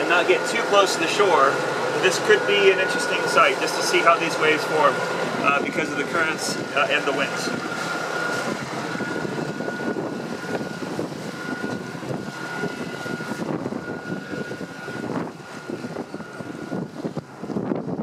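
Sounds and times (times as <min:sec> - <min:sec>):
boat engine running: 0:00.0 - 0:18.0
steady high whine: 0:00.0 - 0:18.0
water rushing along hull: 0:00.0 - 0:18.0.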